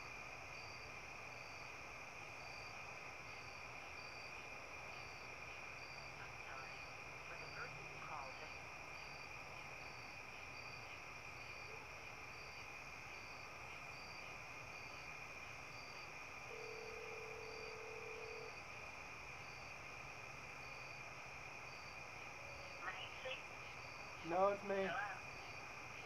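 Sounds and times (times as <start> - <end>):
crickets trilling: 0.0 - 26.0
pulsing high insect call: 0.0 - 26.0.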